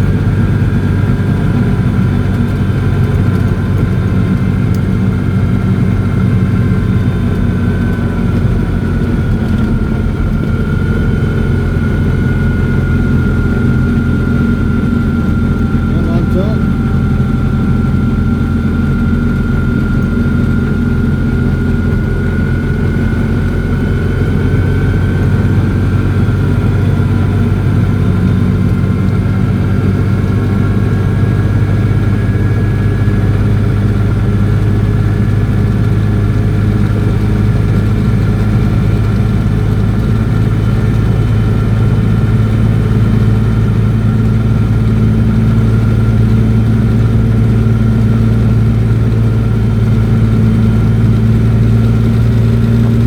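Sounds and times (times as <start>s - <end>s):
car engine drone from cabin: 0.0s - 53.0s
thin drivetrain whine: 0.0s - 53.0s.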